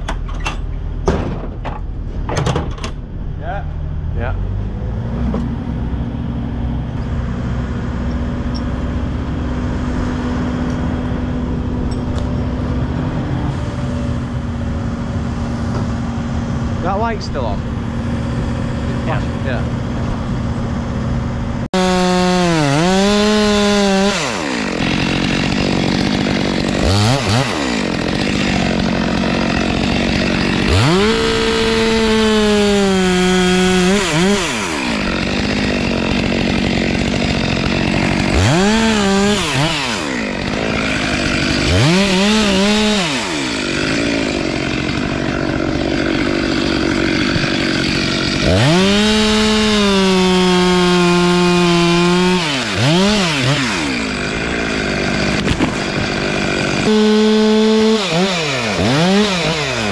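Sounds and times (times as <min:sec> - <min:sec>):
chainsaw cutting tree trunk: 0:06.9 - 0:59.9.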